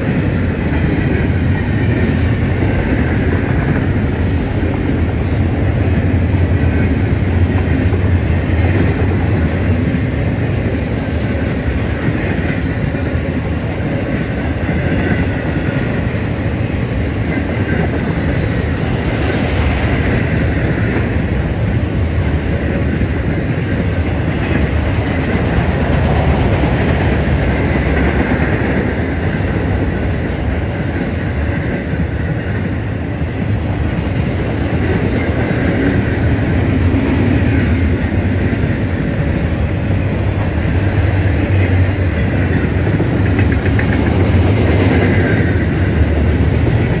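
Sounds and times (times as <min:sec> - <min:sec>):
freight train wheels rumbling on rail: 0:00.0 - 0:47.0.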